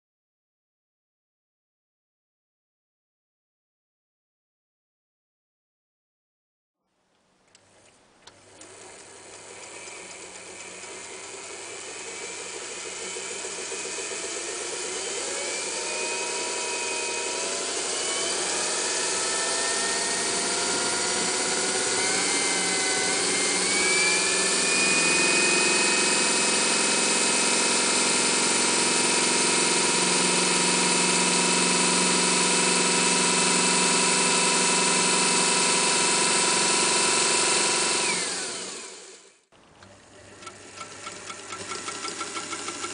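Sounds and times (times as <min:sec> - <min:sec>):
electric sewing machine running: 0:08.5 - 0:42.9.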